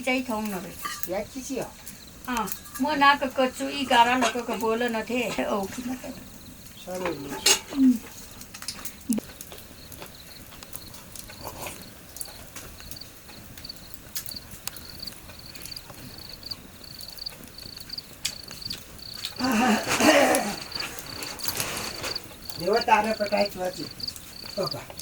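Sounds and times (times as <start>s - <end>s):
insect chirping trill: 1.1s - 25.0s.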